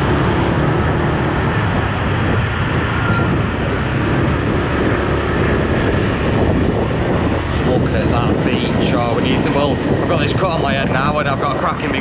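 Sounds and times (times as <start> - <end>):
road or water noise: 0.0 - 12.0
vehicle engine rumble: 0.0 - 12.0
wind: 0.0 - 12.0.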